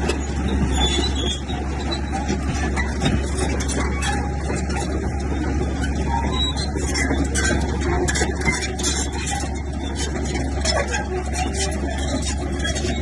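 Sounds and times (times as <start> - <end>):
diesel machinery droning: 0.0 - 13.0.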